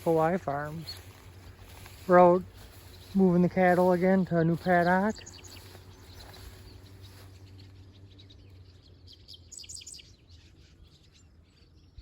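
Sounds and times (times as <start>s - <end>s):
birds chirping: 0.0s - 12.0s
low steady hum: 0.0s - 12.0s.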